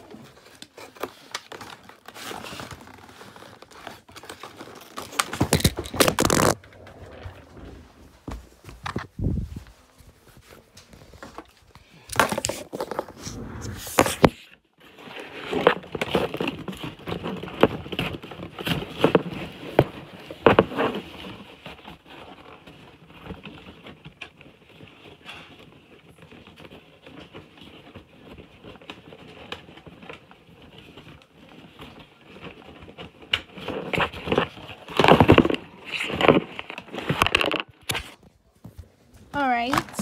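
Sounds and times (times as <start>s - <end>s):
packaging rustling and crackling: 0.0s - 40.0s.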